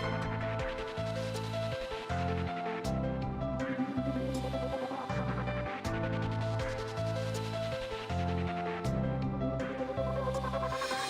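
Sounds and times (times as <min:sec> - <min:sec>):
bass line: 0:00.0 - 0:10.8.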